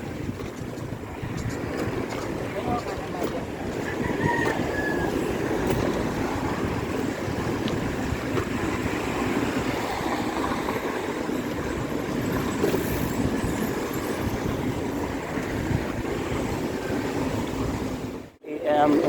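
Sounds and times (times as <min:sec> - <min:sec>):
road rumble: 0:00.0 - 0:19.0
wind on microphone: 0:00.0 - 0:19.0.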